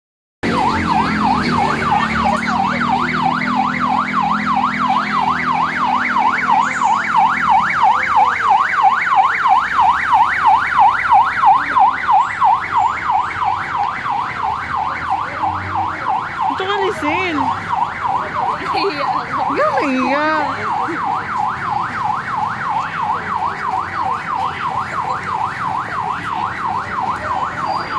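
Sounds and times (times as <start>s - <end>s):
siren yelping: 0.4s - 27.9s.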